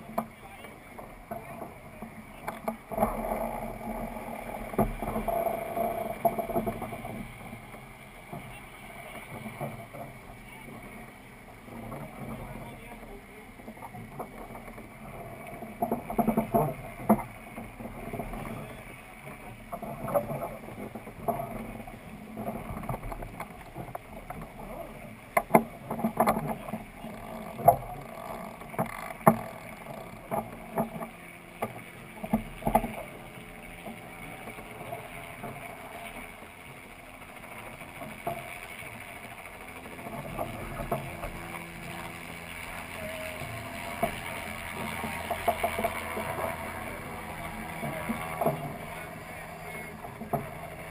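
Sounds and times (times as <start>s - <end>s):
wind and water noise: 0.0s - 50.9s.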